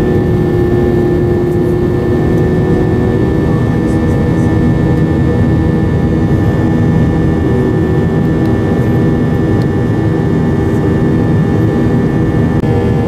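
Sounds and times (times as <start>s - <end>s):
airliner engines droning in cabin: 0.0s - 13.0s.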